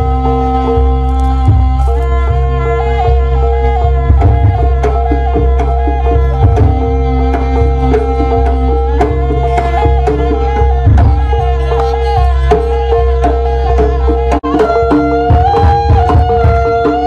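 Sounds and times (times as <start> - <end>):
gamelan music: 0.0 - 17.0
hand drums beating: 0.0 - 17.0.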